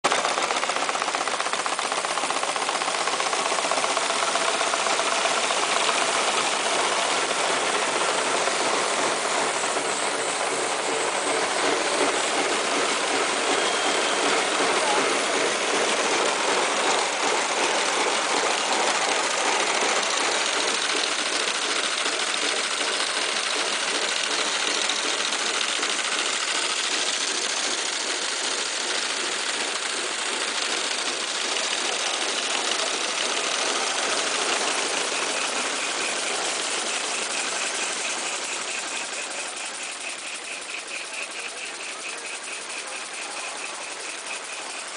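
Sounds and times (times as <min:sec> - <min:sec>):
model steam engines clattering: 0:00.0 - 0:44.9
hissing exhaust: 0:02.4 - 0:44.9.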